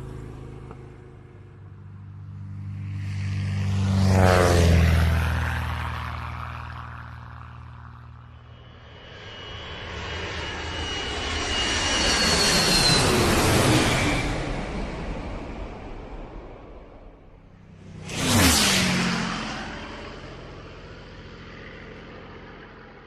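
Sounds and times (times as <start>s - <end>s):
aircraft flying past: 0.0s - 23.0s
high aircraft engine whine: 0.0s - 23.0s.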